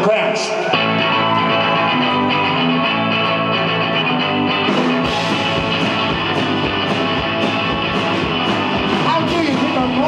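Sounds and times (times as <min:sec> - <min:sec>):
electric guitar ringing notes: 0:00.7 - 0:10.0
repeating bass line: 0:00.8 - 0:10.0.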